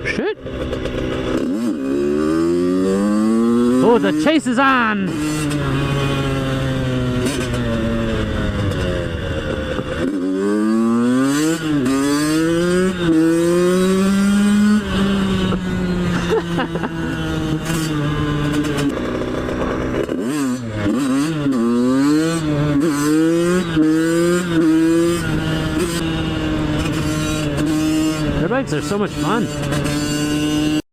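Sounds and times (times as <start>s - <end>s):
dirt bike engine revving: 0.0s - 30.8s.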